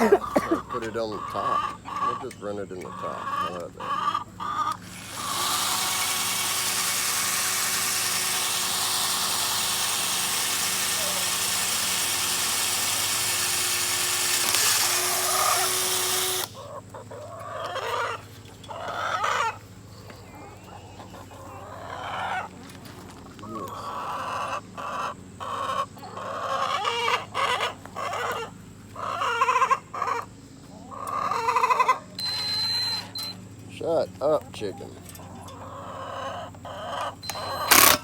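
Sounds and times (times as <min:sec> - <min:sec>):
chickens clucking and squawking: 0:00.0 - 0:09.6, 0:10.8 - 0:11.4, 0:12.8 - 0:32.3, 0:33.4 - 0:38.0.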